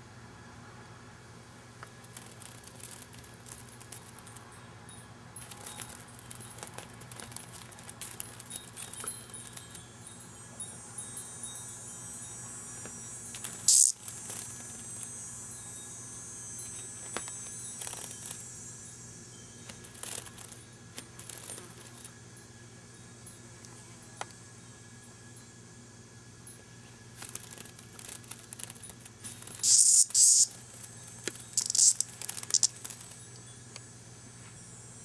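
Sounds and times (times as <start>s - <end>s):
cicada buzzing: 1.8s - 23.0s, 27.1s - 35.0s.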